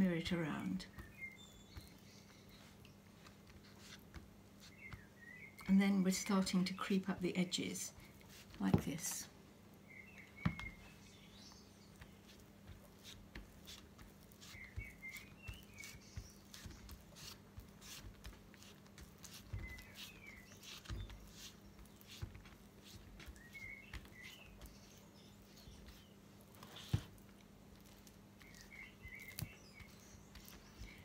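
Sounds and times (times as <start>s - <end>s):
fingertips tapping damp pulp: 0.0s - 31.0s
small bird chirping: 0.1s - 4.0s, 4.6s - 6.3s, 9.8s - 31.0s.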